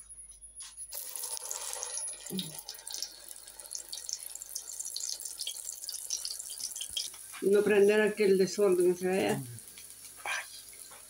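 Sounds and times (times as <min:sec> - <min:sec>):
patty sizzling in oil: 0:00.9 - 0:11.0.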